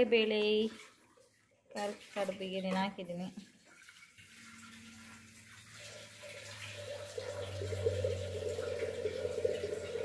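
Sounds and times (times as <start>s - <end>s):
water trickling and dripping: 0.2s - 10.0s.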